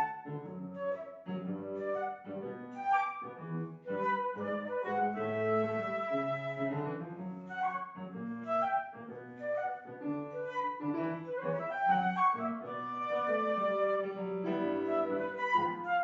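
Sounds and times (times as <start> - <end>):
flute melody: 0.0 - 16.0
piano accompaniment: 0.0 - 16.0.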